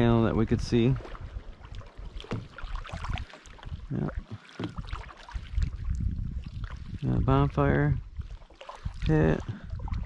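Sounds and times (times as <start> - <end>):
paddle splashing in water: 0.6 - 7.0, 8.1 - 10.0.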